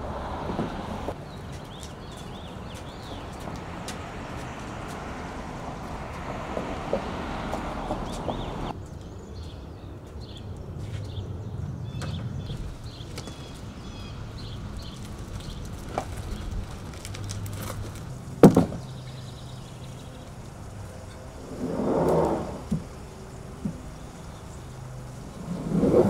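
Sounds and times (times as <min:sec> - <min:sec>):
cart wheels rumbling: 0:00.0 - 0:08.8, 0:11.8 - 0:26.0.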